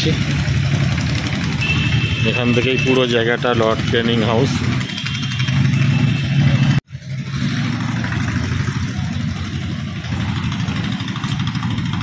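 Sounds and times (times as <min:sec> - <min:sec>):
motor engine humming: 0:00.0 - 0:12.0.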